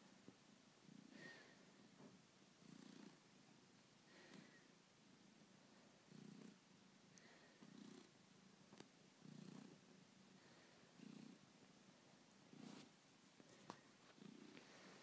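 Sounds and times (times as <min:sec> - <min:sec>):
cat purring faintly: 0:00.0 - 0:15.0.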